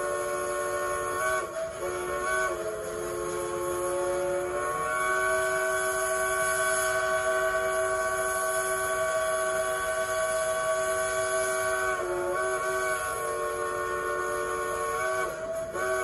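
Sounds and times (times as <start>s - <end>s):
steam locomotive whistle: 0.0s - 16.0s.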